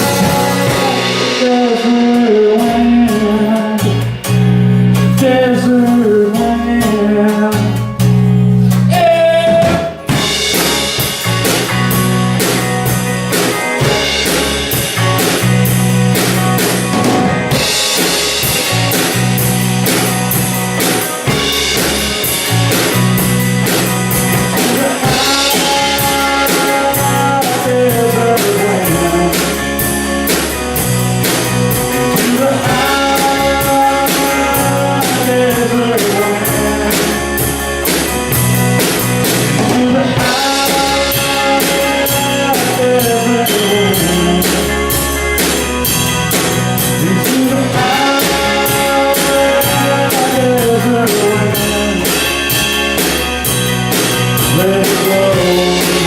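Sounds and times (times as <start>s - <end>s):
drum kit steady beat: 0.0s - 56.0s
live band playing: 0.0s - 56.0s.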